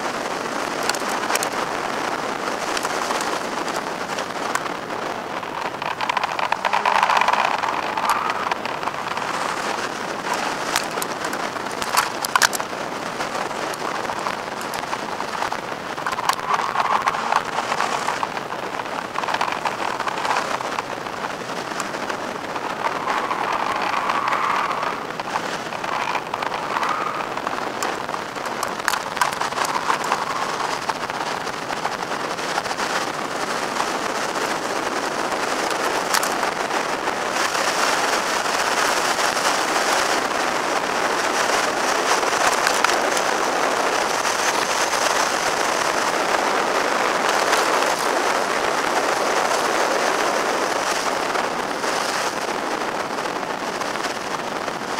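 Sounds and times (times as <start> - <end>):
sharp crackles: 0.0 - 54.9
wind and road noise rushing: 0.0 - 54.9.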